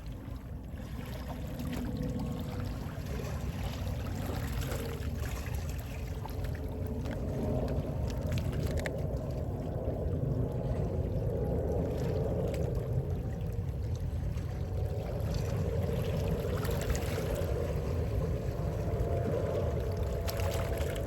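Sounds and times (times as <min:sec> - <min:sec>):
gentle sea waves washing ashore: 0:00.0 - 0:21.0.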